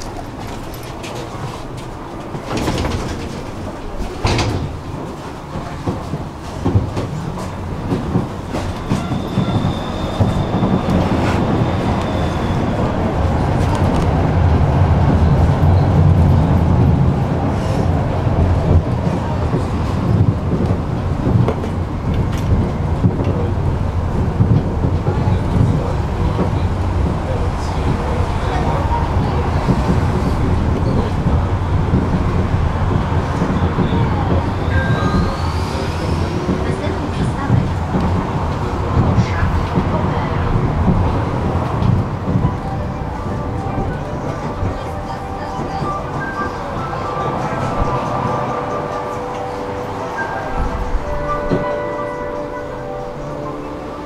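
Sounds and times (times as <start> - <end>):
tram rumbling on rails: 0.0 - 54.0.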